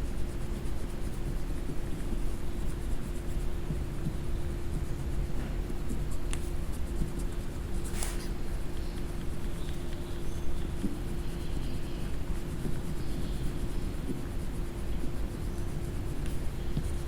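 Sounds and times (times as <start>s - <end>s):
coloring strokes scratching paper: 0.0s - 17.0s
low hum and rumble: 0.0s - 17.0s.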